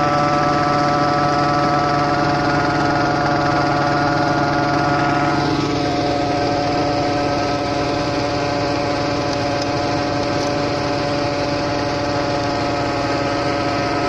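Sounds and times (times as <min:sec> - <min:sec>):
dredge whining drone: 0:00.0 - 0:14.0.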